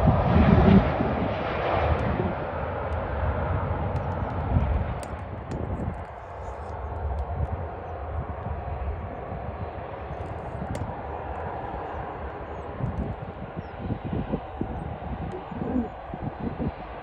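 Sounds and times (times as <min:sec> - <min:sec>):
jet engines rushing and rumbling: 0:00.0 - 0:17.0.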